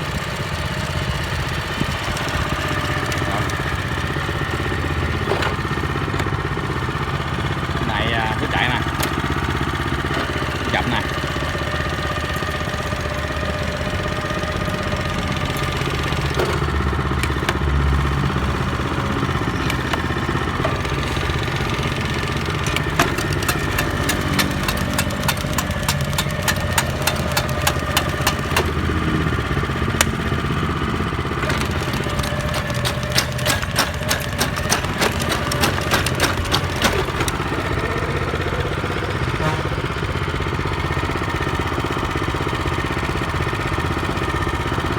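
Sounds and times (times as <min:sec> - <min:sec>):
rapid clicks and clatter: 0:00.0 - 0:39.3
tiller engine running: 0:00.0 - 0:44.9.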